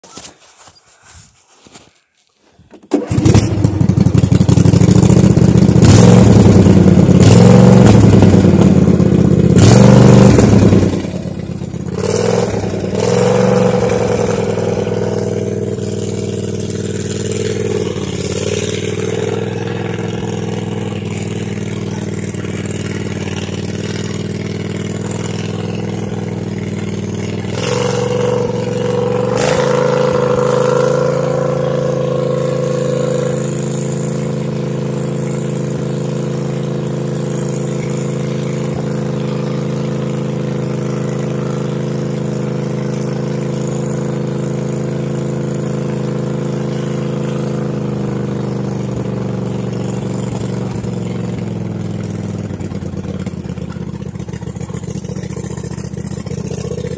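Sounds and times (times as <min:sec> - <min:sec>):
lawn tractor engine running: 0:02.6 - 0:56.9.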